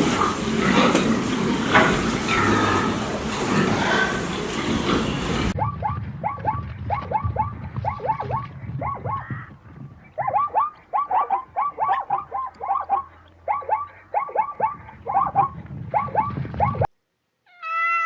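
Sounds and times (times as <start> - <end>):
animal calls: 2.2 - 16.9.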